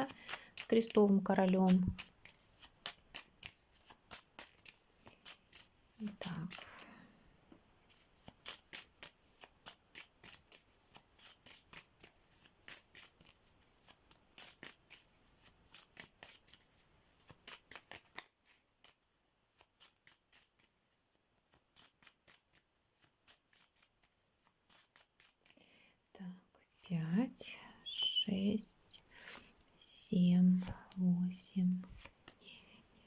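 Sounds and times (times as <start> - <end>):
playing cards being shuffled: 0.0 - 7.0, 7.8 - 25.6, 27.8 - 32.4.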